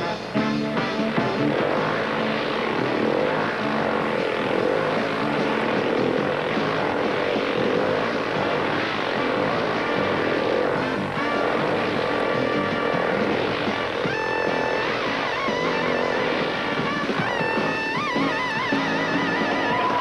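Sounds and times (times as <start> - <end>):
motorcycle engines droning: 0.0 - 20.0.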